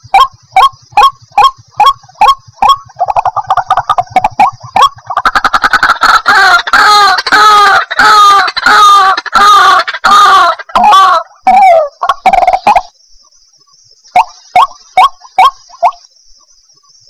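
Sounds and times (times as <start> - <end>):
waterhen calling: 0.0 - 13.0, 14.1 - 16.1.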